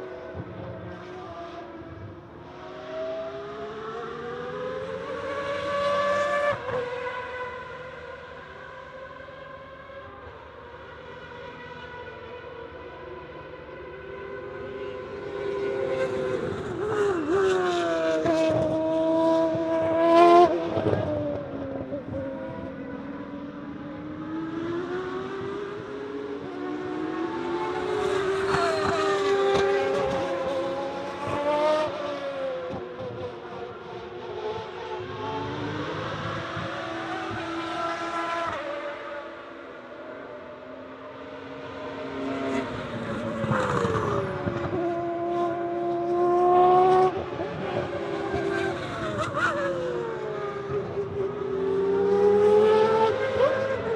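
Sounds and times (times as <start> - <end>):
racing cars passing at high revs: 0.0 - 53.9.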